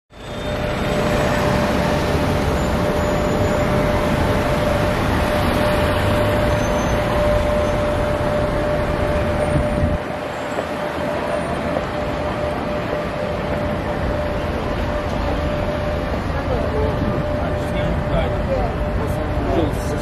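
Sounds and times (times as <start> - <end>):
constant tone: 0.1 - 20.0
road traffic noise: 0.1 - 20.0.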